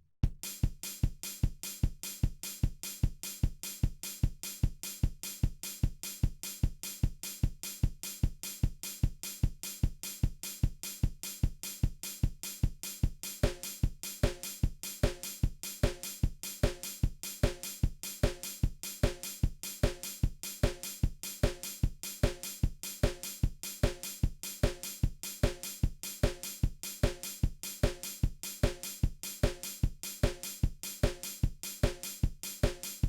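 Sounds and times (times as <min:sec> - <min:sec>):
drum kit beat: 0:00.2 - 0:33.0.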